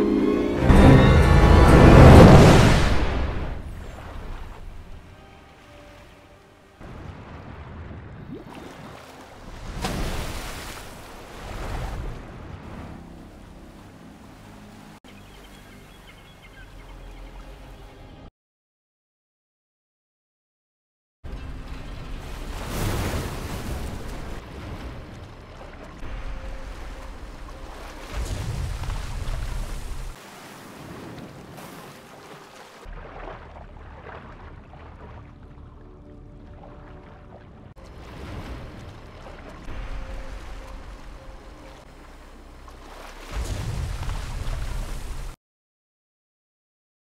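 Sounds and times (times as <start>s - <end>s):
ocean waves: 0.0s - 18.3s, 21.3s - 45.4s.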